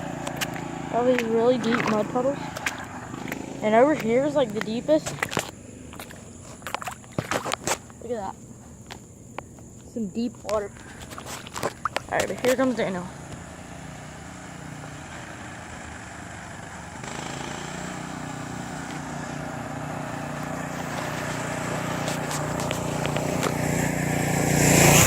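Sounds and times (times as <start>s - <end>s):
mini bike engine running: 0.0s - 6.4s, 10.5s - 25.0s.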